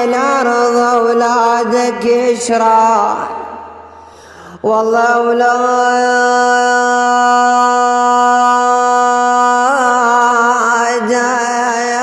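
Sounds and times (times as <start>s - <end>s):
man chanting unaccompanied: 0.0s - 3.6s, 4.6s - 12.0s.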